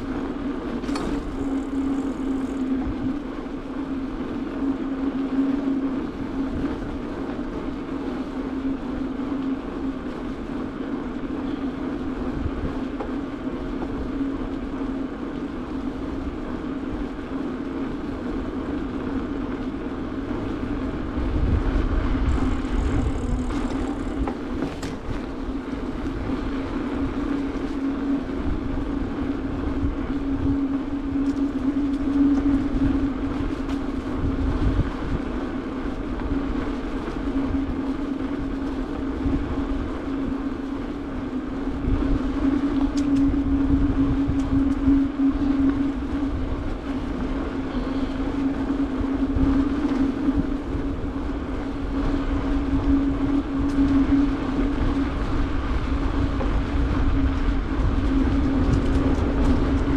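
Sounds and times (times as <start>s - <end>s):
bicycle tyre hum on asphalt: 0.0s - 59.9s
wind rumble on microphone: 0.0s - 59.9s.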